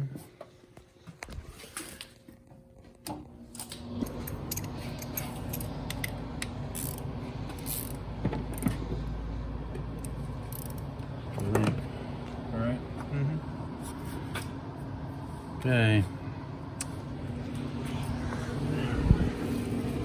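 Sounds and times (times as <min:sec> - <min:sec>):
machine humming and rumbling: 0:03.2 - 0:20.0.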